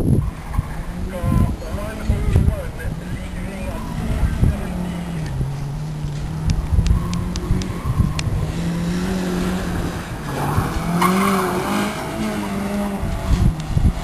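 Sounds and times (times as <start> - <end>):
car engine revving: 0.2 - 14.0.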